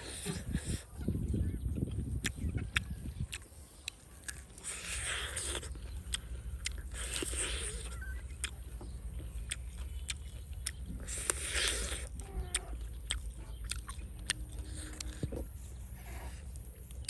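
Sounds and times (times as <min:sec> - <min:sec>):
person chewing and biting: 0:00.0 - 0:00.9, 0:01.8 - 0:17.0.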